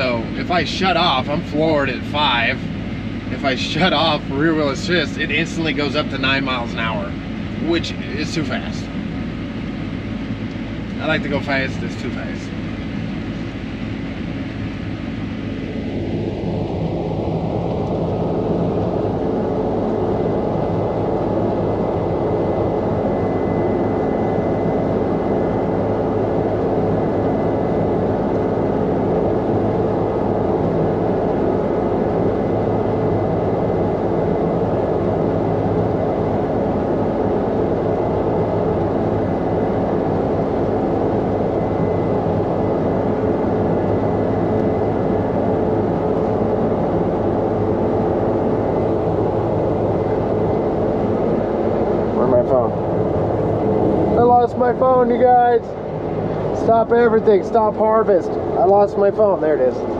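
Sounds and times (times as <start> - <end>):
combine harvester drone: 0.0 - 59.9
faint high whine: 0.0 - 59.9.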